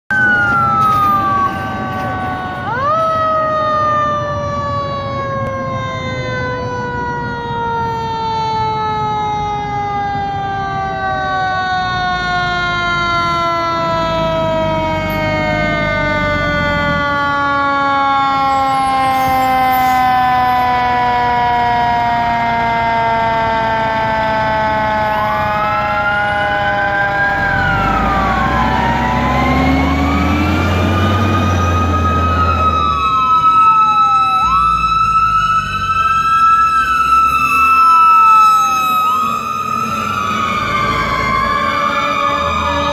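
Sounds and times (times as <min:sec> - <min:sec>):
fire engine siren wailing: 0:00.0 - 0:42.9
second siren gliding tones: 0:00.1 - 0:42.9
heavy truck engine rumble: 0:00.2 - 0:42.9.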